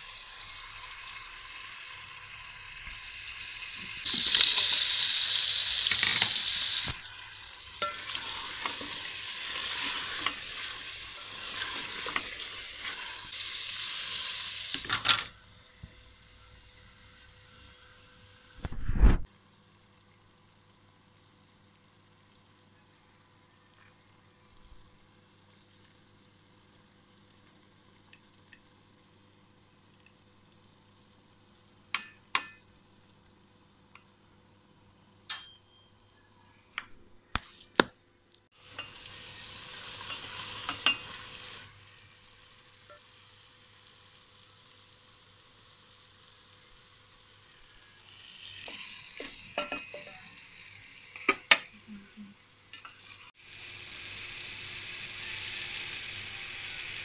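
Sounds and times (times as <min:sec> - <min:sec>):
curry sizzling in a pot: 0:00.0 - 0:18.6, 0:19.3 - 0:35.3, 0:38.5 - 0:57.0.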